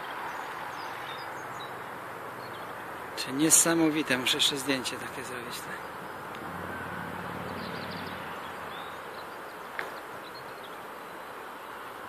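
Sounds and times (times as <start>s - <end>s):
distant engine hum: 0.0s - 12.0s.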